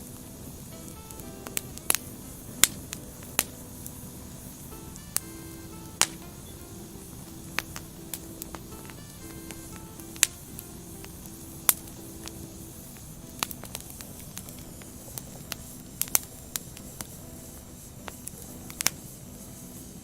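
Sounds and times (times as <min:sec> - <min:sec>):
firewood crackling hiss: 0:00.0 - 0:20.0.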